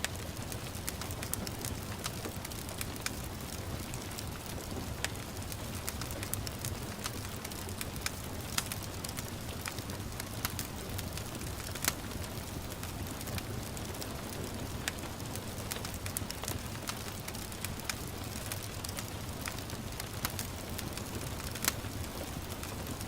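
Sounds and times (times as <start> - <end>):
gentle rain hiss: 0.0 - 23.0
wood fire crackling and popping: 0.0 - 23.0.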